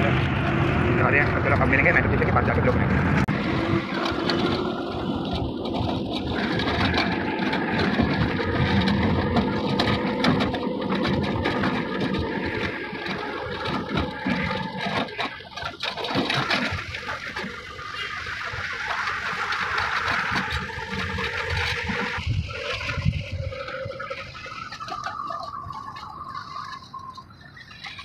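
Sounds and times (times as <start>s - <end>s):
auto-rickshaw engine running: 0.0s - 28.0s
road and traffic noise: 0.0s - 28.0s.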